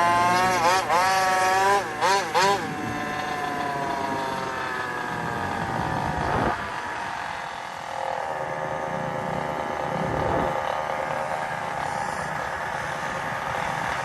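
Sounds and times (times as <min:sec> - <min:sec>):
small gasoline engine revving: 0:00.0 - 0:14.0.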